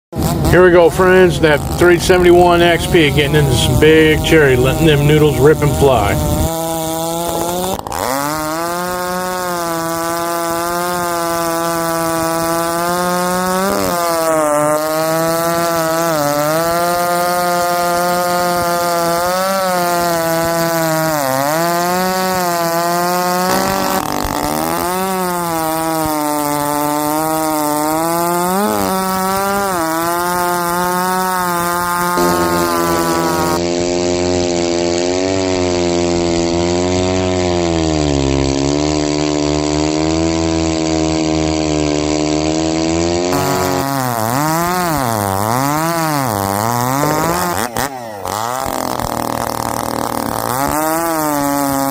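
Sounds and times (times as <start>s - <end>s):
chainsaw cutting logs at full throttle: 0.0s - 51.9s.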